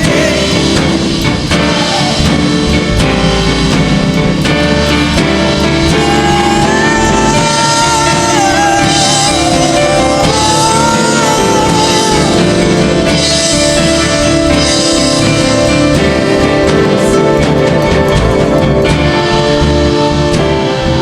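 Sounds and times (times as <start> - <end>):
worship band with drums and guitar: 0.0 - 21.0.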